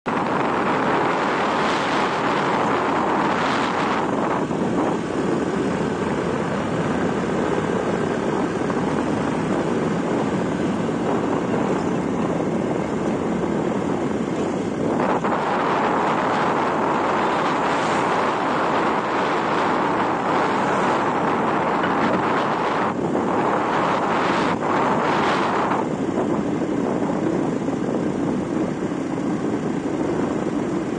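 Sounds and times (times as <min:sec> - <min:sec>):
road noise: 0:00.0 - 0:30.9
wind buffeting microphone: 0:00.0 - 0:30.9
motorcycle engine: 0:00.1 - 0:30.9.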